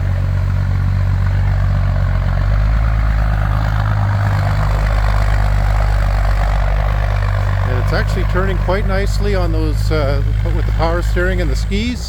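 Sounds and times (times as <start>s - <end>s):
snow bus engine droning: 0.0s - 12.0s.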